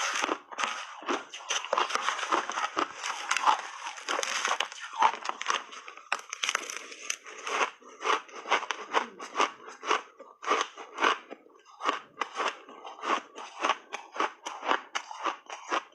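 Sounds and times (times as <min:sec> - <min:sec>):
person chewing crunchy ice: 0:00.0 - 0:15.9.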